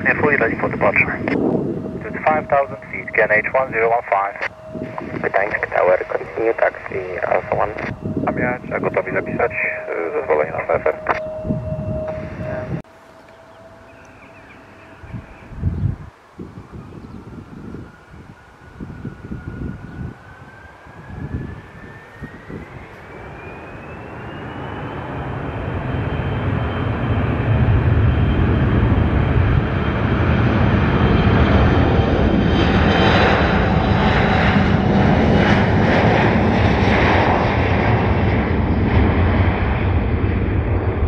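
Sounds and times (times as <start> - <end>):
jet engines spooling up: 0.0 - 41.0.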